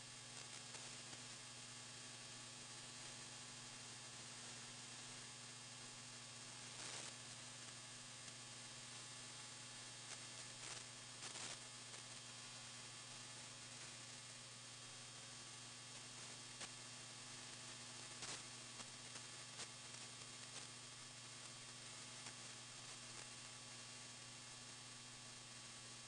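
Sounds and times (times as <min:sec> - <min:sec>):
static hiss: 0:00.0 - 0:26.0.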